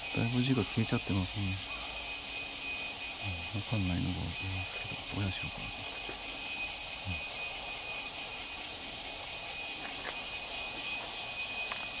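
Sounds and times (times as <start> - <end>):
insects chirping: 0.0 - 12.0
thin steady whine: 0.0 - 12.0.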